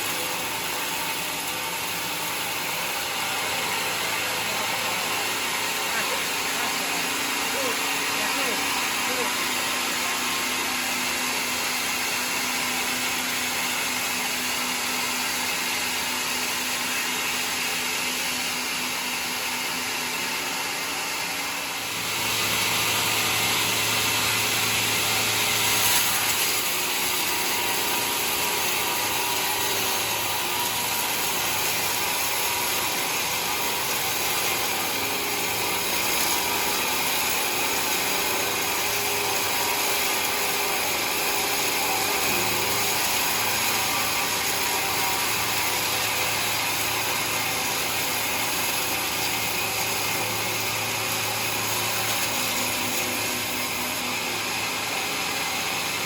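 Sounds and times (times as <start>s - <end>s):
saw blade cutting log: 0.0s - 56.0s.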